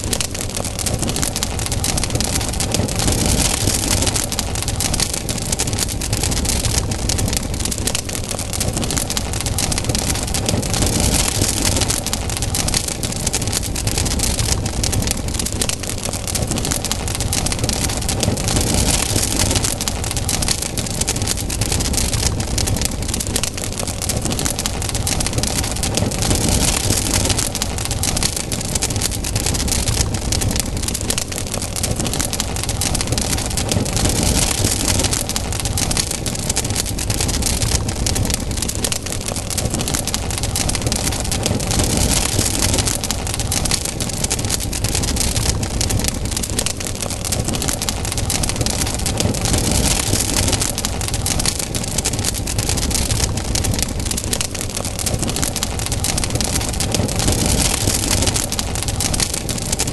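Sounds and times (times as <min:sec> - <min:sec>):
campfire crackling and popping: 0:00.0 - 0:59.9
rush of flame: 0:00.0 - 0:59.9.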